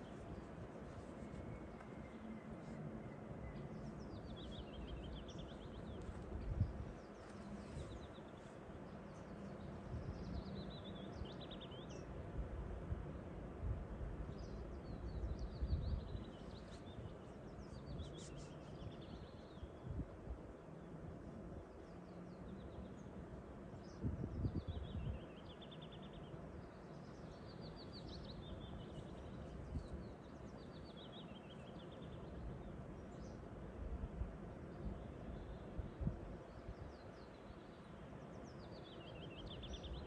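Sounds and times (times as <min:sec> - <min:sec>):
low rumble of outdoor noise: 0:00.0 - 0:40.0
songbird singing: 0:00.0 - 0:40.0.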